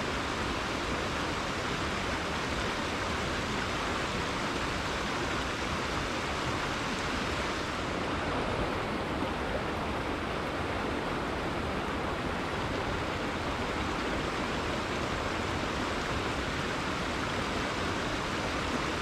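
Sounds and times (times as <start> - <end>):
river water flowing over rocks: 0.0 - 19.0.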